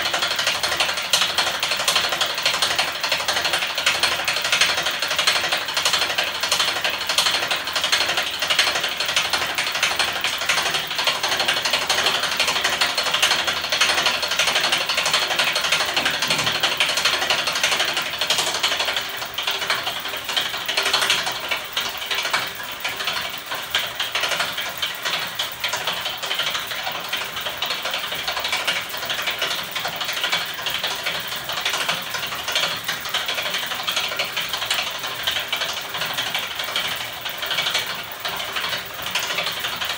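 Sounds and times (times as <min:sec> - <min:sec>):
rapid mechanical clatter: 0:00.0 - 0:39.9.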